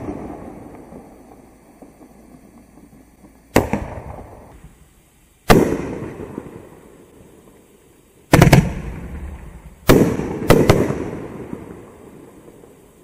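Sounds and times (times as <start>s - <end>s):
fireworks bangs with echo: 0.0s - 4.8s, 5.4s - 6.9s, 8.3s - 12.9s.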